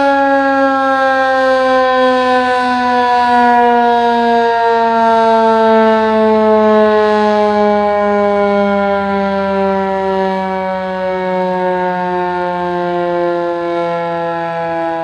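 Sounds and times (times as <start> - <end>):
electric fire siren winding down: 0.0 - 15.0.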